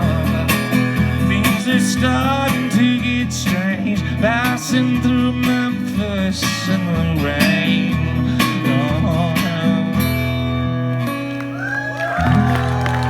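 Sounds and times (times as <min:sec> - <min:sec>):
strummed acoustic guitar: 0:00.0 - 0:11.4.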